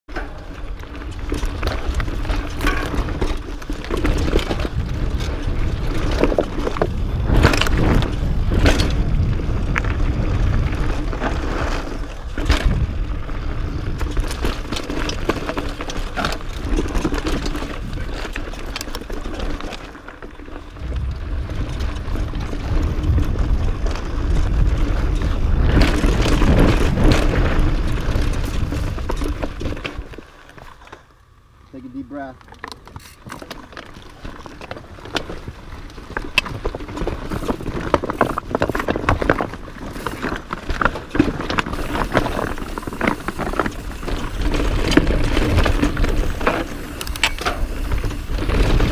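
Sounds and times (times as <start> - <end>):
bike knocking on rocks: 0.1 - 31.0, 32.4 - 48.9
bike rattling: 0.1 - 48.9
tyres crunching over dirt and rocks: 0.1 - 48.9.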